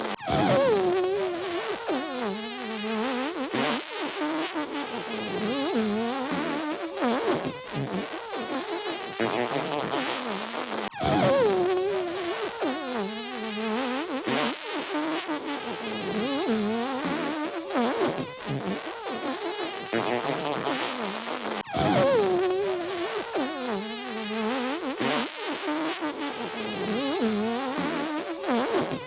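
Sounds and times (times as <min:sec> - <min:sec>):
comic fart noises: 0:00.0 - 0:29.0.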